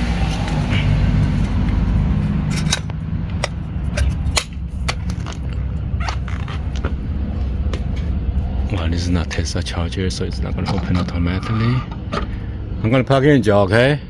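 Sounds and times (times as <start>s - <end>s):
low rumble: 0.0s - 14.0s
steady hum: 0.0s - 14.0s.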